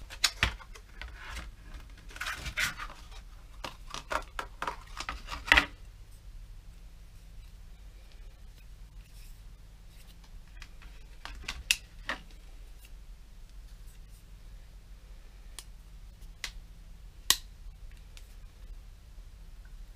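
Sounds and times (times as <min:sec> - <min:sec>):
low steady hum: 0:00.0 - 0:19.9.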